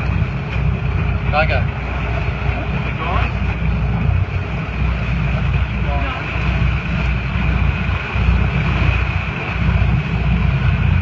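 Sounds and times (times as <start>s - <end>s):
boat engine running: 0.0s - 11.0s
wind on microphone: 0.0s - 11.0s.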